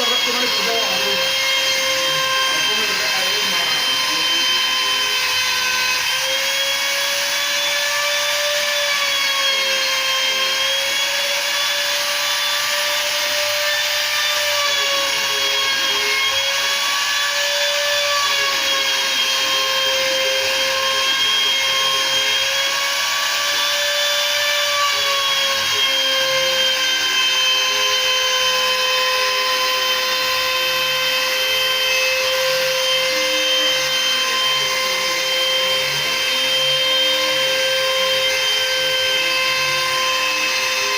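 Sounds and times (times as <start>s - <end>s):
router spindle high whine: 0.0s - 40.9s.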